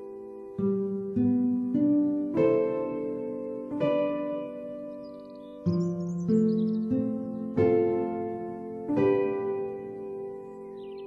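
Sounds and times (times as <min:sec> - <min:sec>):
gentle instrumental chords: 0:00.0 - 0:11.0.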